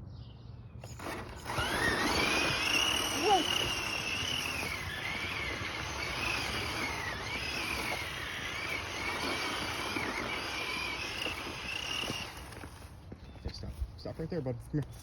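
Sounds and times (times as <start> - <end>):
toy car electric motor whining: 0.8 - 13.0.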